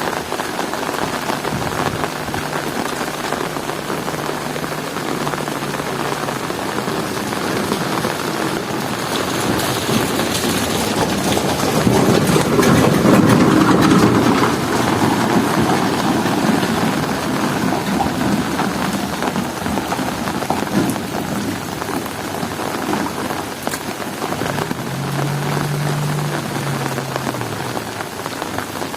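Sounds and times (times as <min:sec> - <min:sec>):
heavy rain: 0:00.0 - 0:28.9
rumble of thunder: 0:01.1 - 0:23.5, 0:24.1 - 0:28.8.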